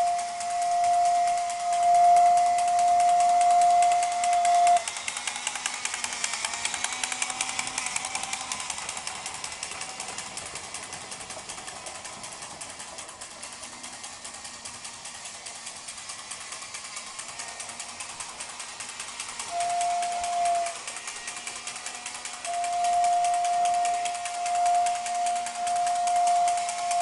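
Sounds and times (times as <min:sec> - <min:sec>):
steady whistling tone: 0:00.0 - 0:12.9, 0:14.2 - 0:27.0
fast even clicking: 0:00.0 - 0:27.0
toy train motor whirring: 0:00.0 - 0:27.0.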